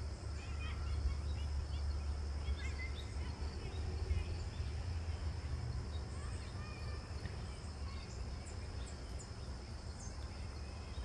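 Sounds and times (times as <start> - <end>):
birds chirping: 0.0 - 11.0
insect drone: 0.0 - 11.0.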